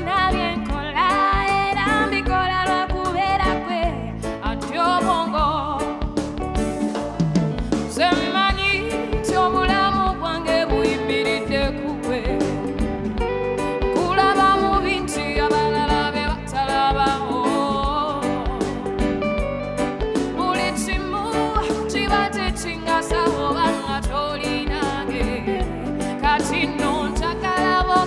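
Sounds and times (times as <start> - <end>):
live band music: 0.0 - 28.0
person singing: 0.0 - 28.0
steady drum beat: 0.0 - 28.0.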